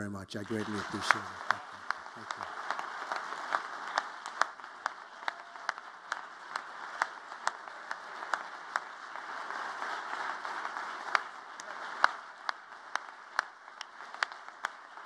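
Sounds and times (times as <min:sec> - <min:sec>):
audience applauding: 0:00.0 - 0:15.0
sharp claps: 0:00.0 - 0:15.0.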